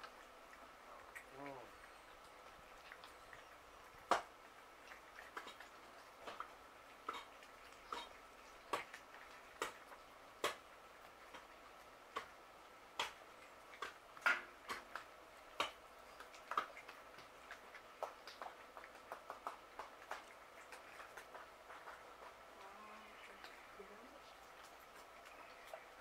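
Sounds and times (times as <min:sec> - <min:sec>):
cats crunching food: 0:00.0 - 0:26.0.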